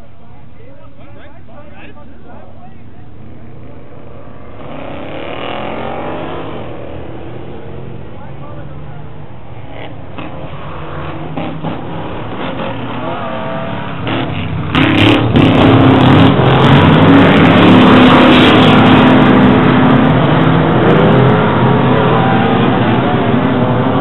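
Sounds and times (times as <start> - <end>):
race truck engines revving: 0.0 - 24.0.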